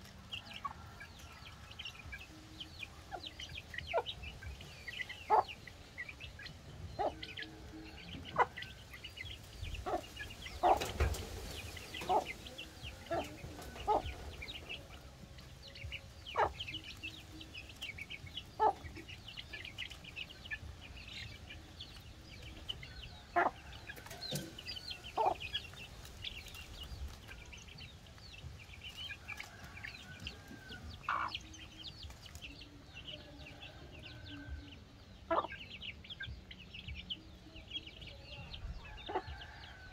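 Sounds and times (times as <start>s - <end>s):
hen clucking: 0.0s - 27.8s, 28.7s - 36.5s
chicks peeping: 0.0s - 39.9s.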